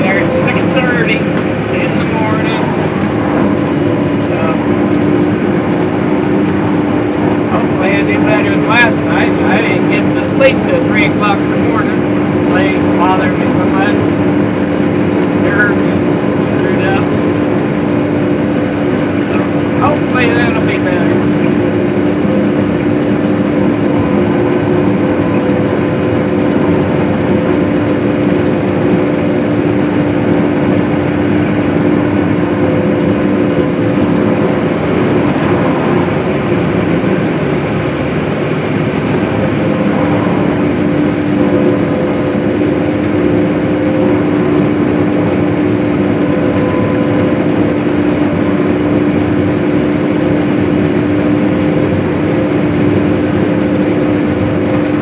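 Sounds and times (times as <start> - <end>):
swather engine drone: 0.0 - 55.0.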